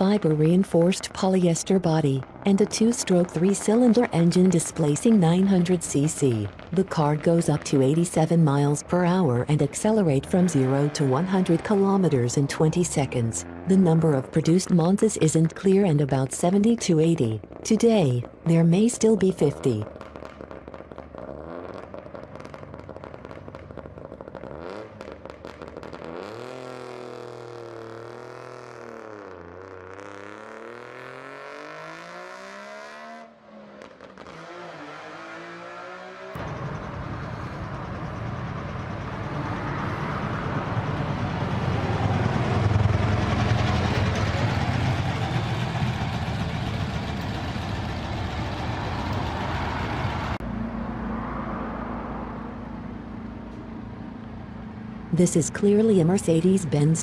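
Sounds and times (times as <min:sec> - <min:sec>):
cars driving past: 0:00.0 - 0:14.2, 0:19.9 - 0:57.0.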